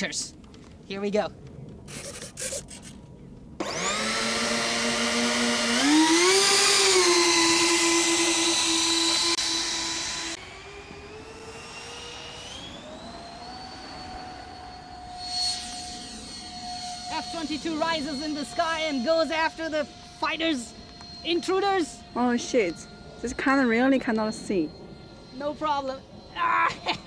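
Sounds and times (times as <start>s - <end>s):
electric ducted fans whining: 0.0s - 27.0s.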